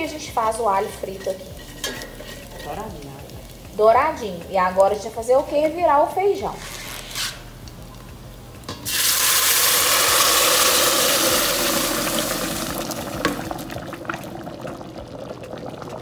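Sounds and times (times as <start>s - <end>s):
liquid sizzling in hot oil: 0.0s - 16.0s.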